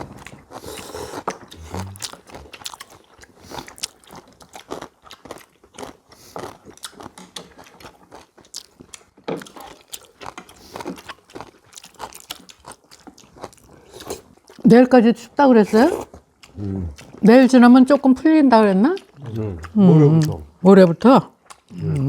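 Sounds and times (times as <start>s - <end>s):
people chewing crunchy food: 0.0s - 22.0s.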